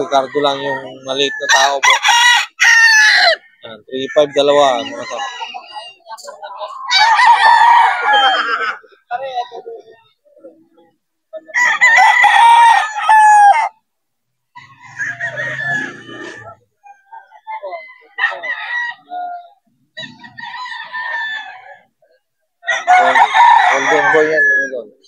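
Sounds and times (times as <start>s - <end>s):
roosters crowing: 0.0s - 6.1s, 6.7s - 8.9s, 11.4s - 13.8s, 14.5s - 25.0s.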